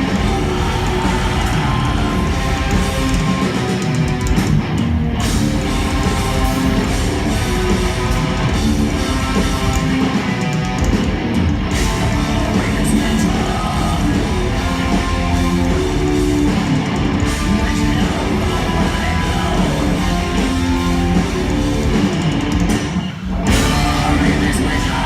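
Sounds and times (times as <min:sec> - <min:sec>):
heavy metal music: 0:00.0 - 0:25.0.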